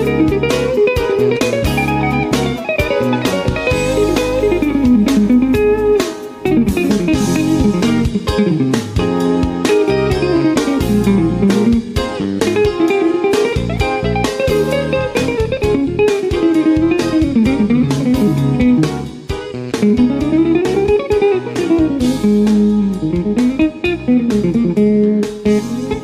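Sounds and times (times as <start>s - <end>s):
fast jazz electric guitar: 0.0s - 26.0s.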